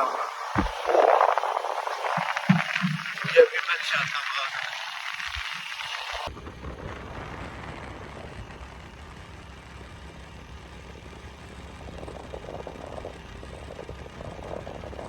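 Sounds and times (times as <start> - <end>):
motorcycle engine humming: 0.0 - 15.0
road and wind noise: 0.0 - 15.0.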